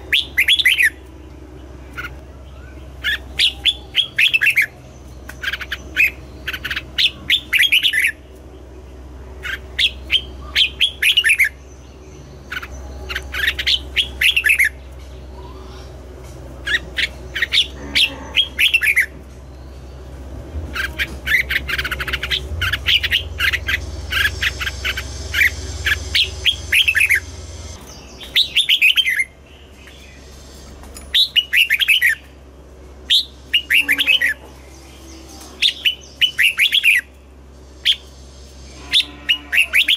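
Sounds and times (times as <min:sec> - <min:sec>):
bulbul singing chirpy notes: 0:00.0 - 0:39.9
steady low hum: 0:00.0 - 0:39.9.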